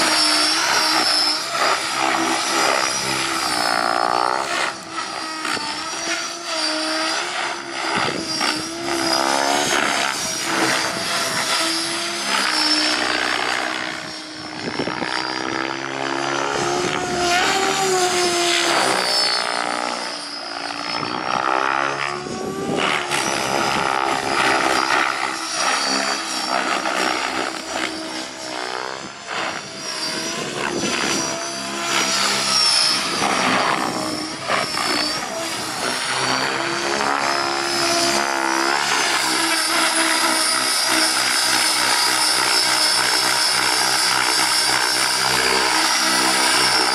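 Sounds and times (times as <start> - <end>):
rc helicopter rotor whine: 0.0 - 46.9.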